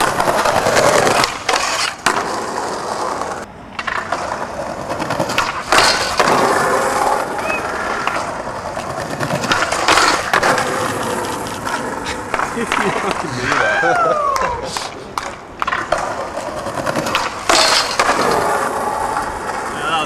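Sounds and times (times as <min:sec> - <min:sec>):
skateboard grinding on metal rail: 0:00.0 - 0:13.3, 0:15.6 - 0:20.0
skateboard wheels on stone: 0:00.0 - 0:20.0.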